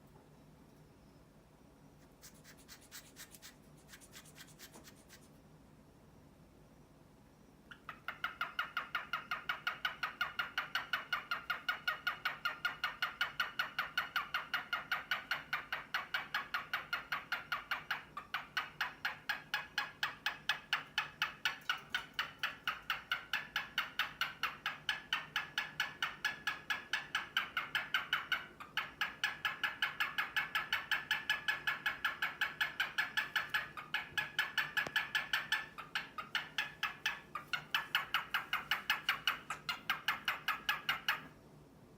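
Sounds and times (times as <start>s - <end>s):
cockatiel calling: 7.7s - 41.3s.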